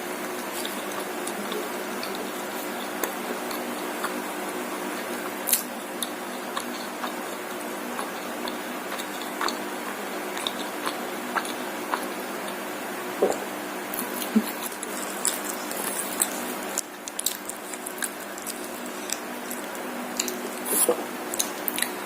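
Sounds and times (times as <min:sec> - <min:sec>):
steady background hum: 0:00.0 - 0:22.0
person chewing food: 0:00.2 - 0:22.0.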